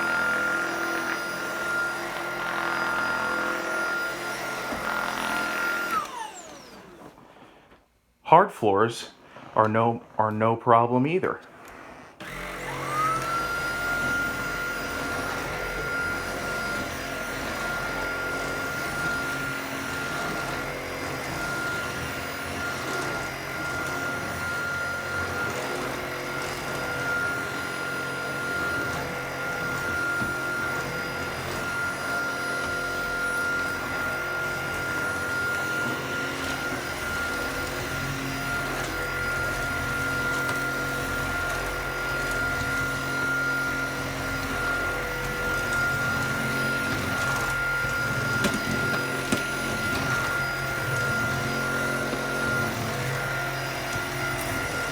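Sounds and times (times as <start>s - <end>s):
vacuum motor whine: 0.0s - 7.8s, 11.5s - 54.9s.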